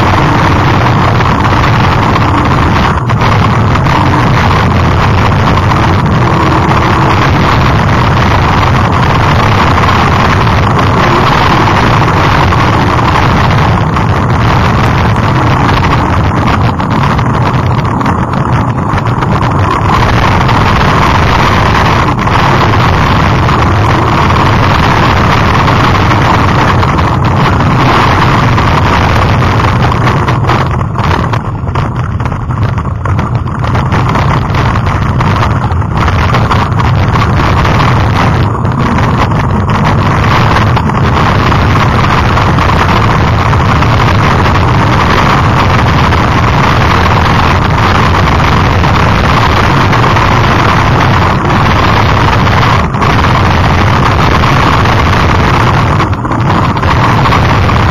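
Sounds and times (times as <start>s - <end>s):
wind noise on microphone: 0.0s - 57.9s.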